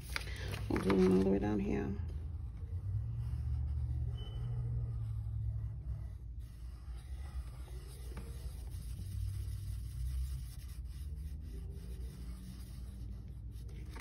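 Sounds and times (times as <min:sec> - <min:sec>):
pen scratching on paper: 0:00.8 - 0:14.0
low hum: 0:01.8 - 0:14.0.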